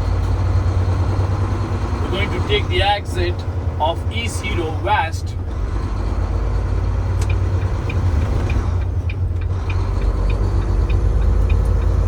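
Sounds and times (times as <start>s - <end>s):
truck engine and road noise: 0.0s - 12.0s
turn signal ticking: 0.0s - 12.0s.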